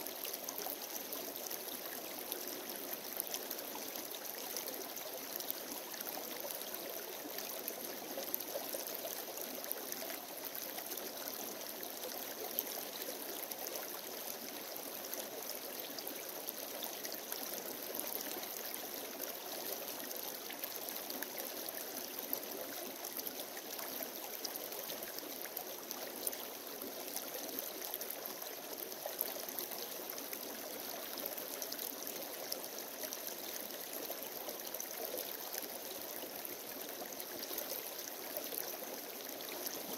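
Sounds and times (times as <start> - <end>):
creek running over stones: 0.0 - 39.9.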